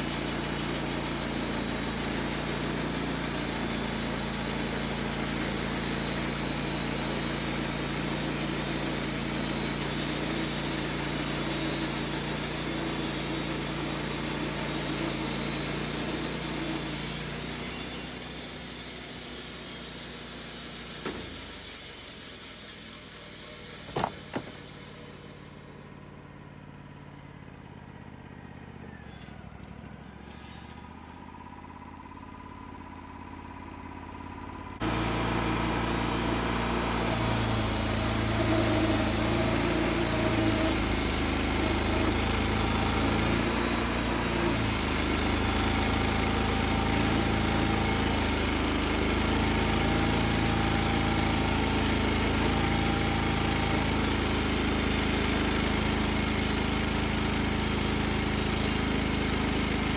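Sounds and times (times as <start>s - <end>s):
sawmill engine running: 0.0s - 30.2s, 33.2s - 59.9s.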